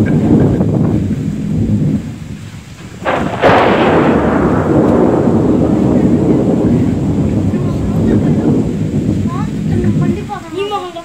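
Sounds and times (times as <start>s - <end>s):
thunder crack and rumble: 0.0s - 11.0s.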